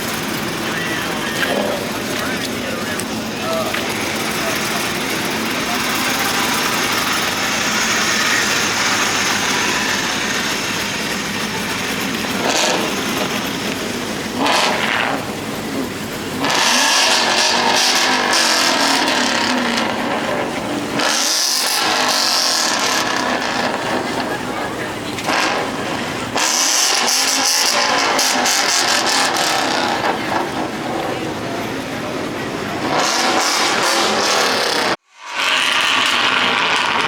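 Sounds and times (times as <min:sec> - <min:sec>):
car engines revving: 0:00.0 - 0:37.0
steady noisy background: 0:00.0 - 0:37.0.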